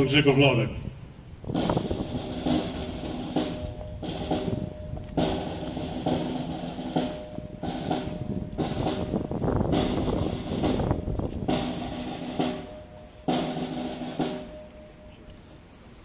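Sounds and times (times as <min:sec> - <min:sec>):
snare drum roll: 0:01.5 - 0:14.8.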